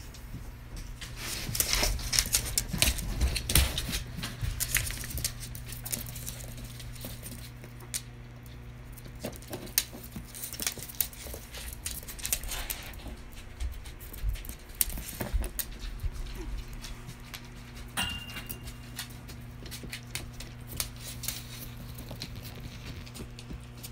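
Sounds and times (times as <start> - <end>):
dogs' claws clicking on floor: 0.0 - 23.9.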